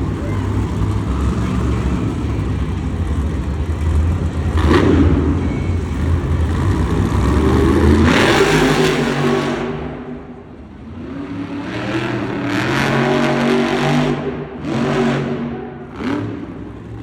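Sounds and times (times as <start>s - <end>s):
truck engine running hard: 0.0s - 17.0s.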